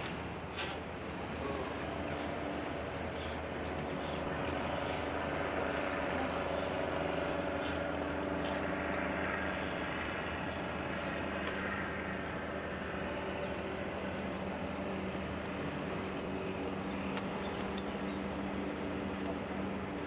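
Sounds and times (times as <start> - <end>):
distant city noise: 0.0 - 20.0
engine drone: 0.0 - 20.0.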